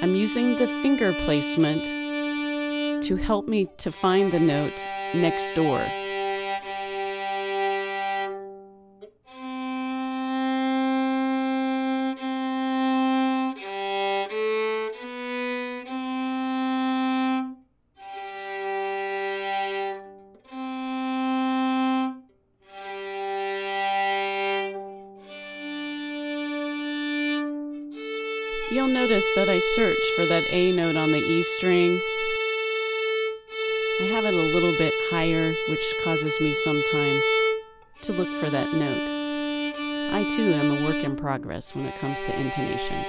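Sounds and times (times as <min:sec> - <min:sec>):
solo fiddle long bowed notes: 0:00.0 - 0:43.0.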